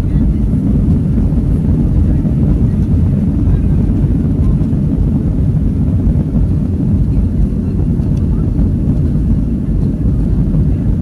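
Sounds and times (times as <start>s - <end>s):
airplane engines rumbling: 0.0s - 11.0s.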